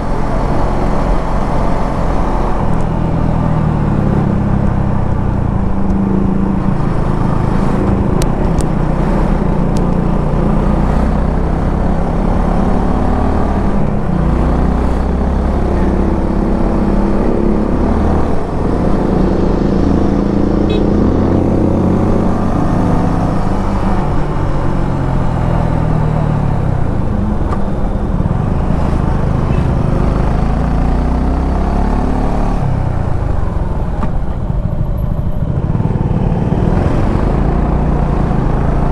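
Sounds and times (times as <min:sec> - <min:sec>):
motorcycle engine revving: 0:00.0 - 0:33.8.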